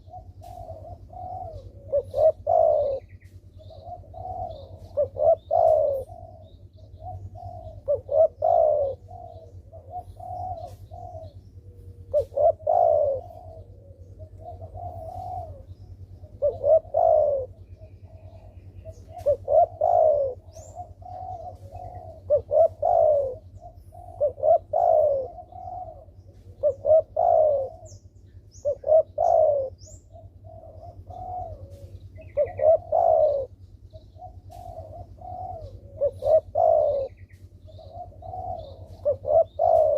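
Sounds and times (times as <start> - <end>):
dove cooing: 0.0 - 39.9
small bird chirps: 0.0 - 39.9
steady low hum: 0.0 - 39.9.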